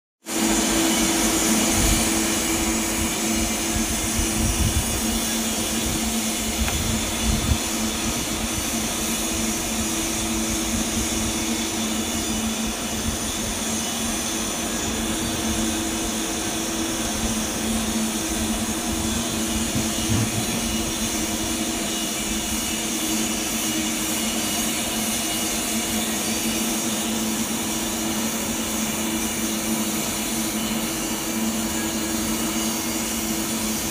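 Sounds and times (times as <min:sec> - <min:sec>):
machinery and ventilation drone: 0:00.3 - 0:33.9.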